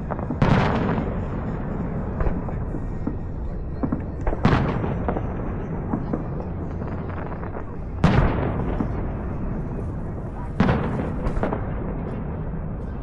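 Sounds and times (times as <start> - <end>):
fireworks bang: 0.0 - 12.8
fireworks popping and crackling: 0.0 - 13.0.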